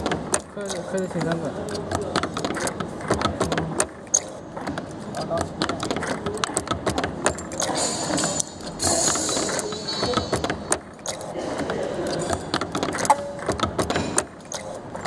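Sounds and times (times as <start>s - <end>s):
spring forming machine clattering: 0.0s - 15.0s.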